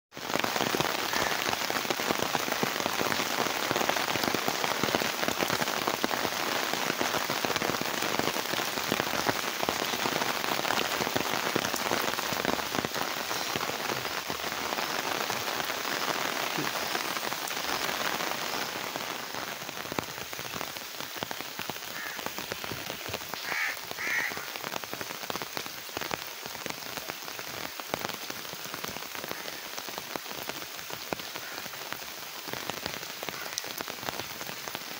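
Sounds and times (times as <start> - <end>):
rain falling on wet ground: 0.1 - 34.9.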